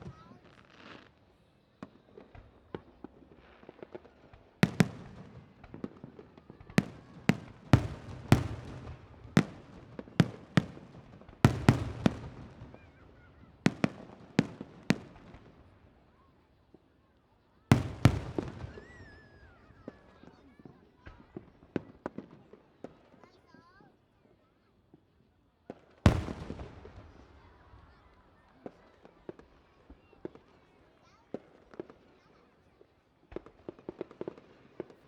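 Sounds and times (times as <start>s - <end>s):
fireworks bursting with echo: 0.0s - 16.3s, 17.7s - 23.2s, 25.7s - 30.7s, 33.2s - 35.0s.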